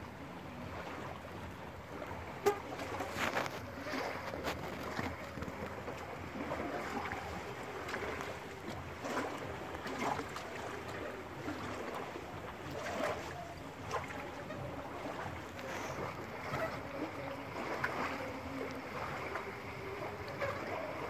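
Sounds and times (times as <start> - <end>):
water splashes: 0.0 - 21.0
waves lapping on rocks: 0.0 - 21.0.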